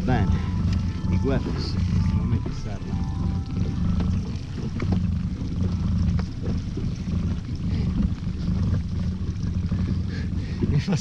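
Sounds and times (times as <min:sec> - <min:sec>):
small boat engine rumble: 0:00.0 - 0:11.0.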